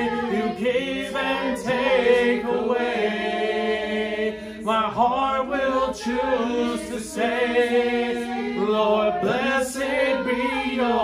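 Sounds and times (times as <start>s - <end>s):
voices singing a cappella: 0.0s - 11.0s.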